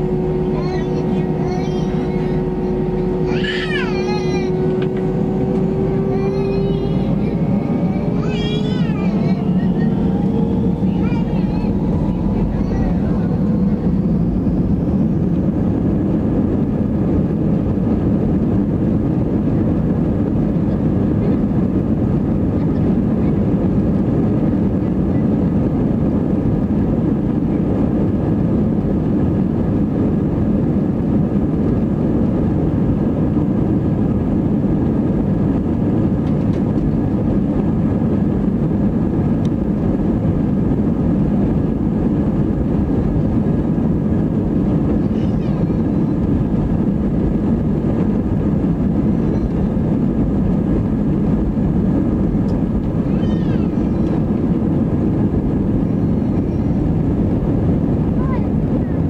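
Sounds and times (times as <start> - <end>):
faint steady whine: 0.0 - 59.0
jet engine rumble: 0.0 - 59.0.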